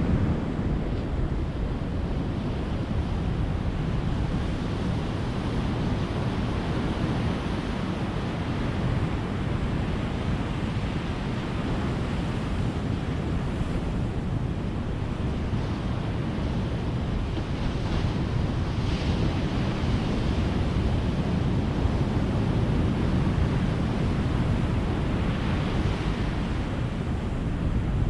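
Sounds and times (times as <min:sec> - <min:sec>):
waves washing on a beach: 0:00.0 - 0:28.0.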